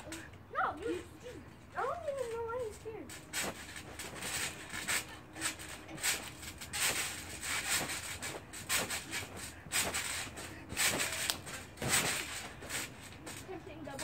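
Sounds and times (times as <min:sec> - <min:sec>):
trampoline springs creaking: 0:00.0 - 0:14.0.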